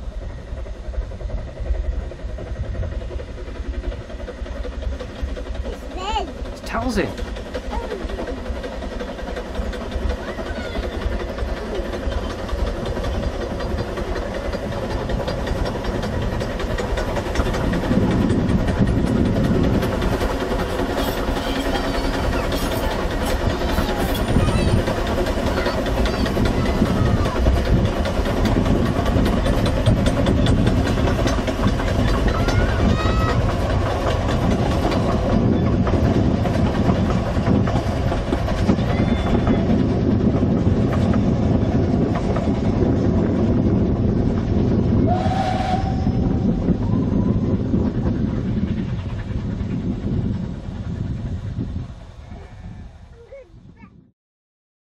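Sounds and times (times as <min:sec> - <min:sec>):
steam locomotive working: 0:00.0 - 0:53.8
train rumble and clatter: 0:00.0 - 0:54.1.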